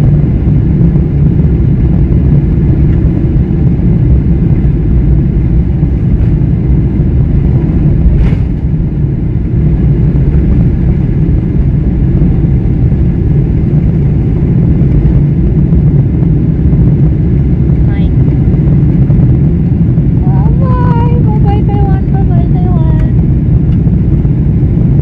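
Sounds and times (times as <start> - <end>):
jet engines at takeoff power: 0.0 - 25.0
wheels rumbling over runway: 0.0 - 25.0.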